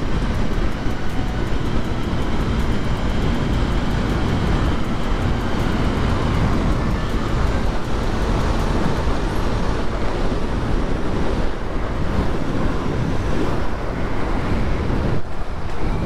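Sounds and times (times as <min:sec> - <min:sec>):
motorcycle engine and road noise: 0:00.0 - 0:16.0
wind buffeting microphone: 0:00.0 - 0:16.0.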